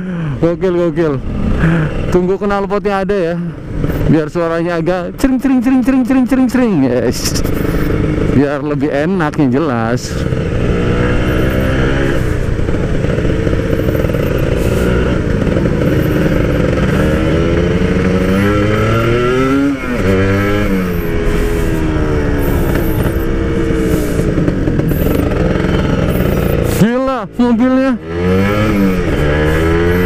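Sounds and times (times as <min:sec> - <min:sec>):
two-stroke motorcycle engine revving: 0:00.0 - 0:30.0.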